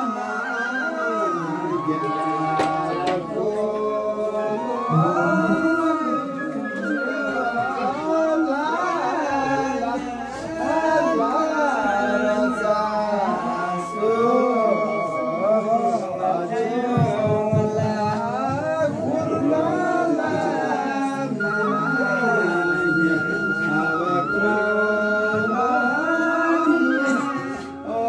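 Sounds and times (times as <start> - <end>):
men singing together: 0.0 - 28.0.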